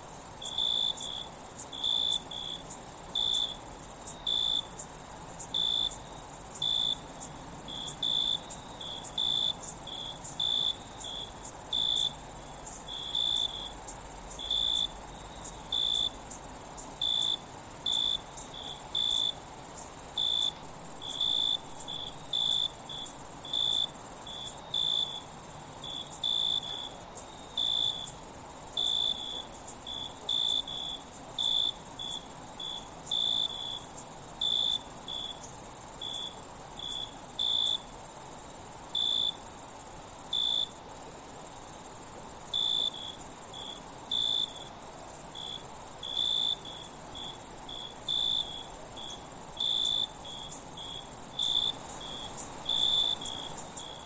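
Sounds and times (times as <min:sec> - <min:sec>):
crickets chirping: 0:00.0 - 0:54.0
high-pitched insect hum: 0:00.0 - 0:54.0.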